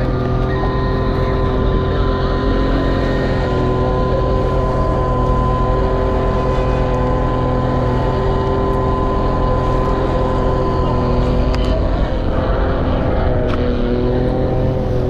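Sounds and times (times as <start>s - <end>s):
boat engine running steadily: 0.0s - 15.0s
water rushing along hull: 0.0s - 15.0s.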